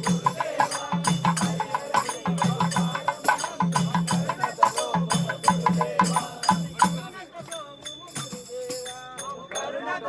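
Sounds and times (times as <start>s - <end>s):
sharp clicking percussion strokes: 0.0s - 9.8s.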